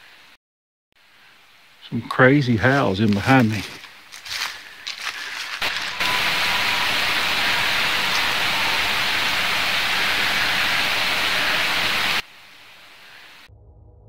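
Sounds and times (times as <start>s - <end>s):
creek rushing: 1.8s - 13.4s.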